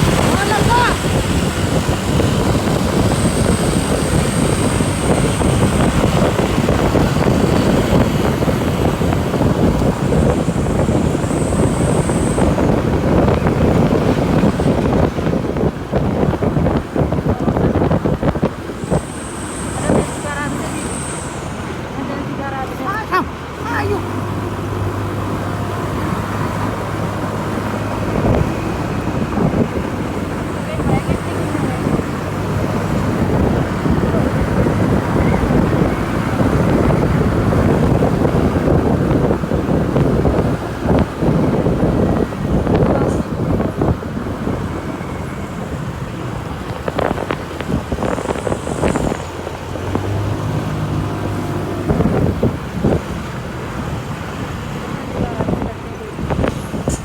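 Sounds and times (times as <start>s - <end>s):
road and wind noise: 0.0s - 57.0s
vehicle engine drone: 0.0s - 57.0s.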